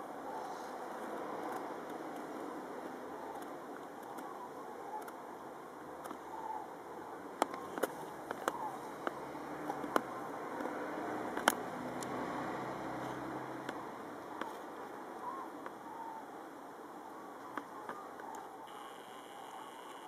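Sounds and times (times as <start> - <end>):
faint bird calls overhead: 2.9 - 11.3, 12.2 - 20.0.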